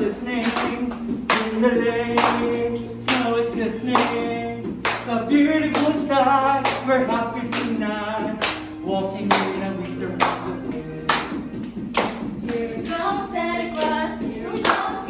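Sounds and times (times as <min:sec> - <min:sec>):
voices singing: 0:00.0 - 0:15.0
hand claps: 0:00.4 - 0:13.0, 0:14.6 - 0:15.0.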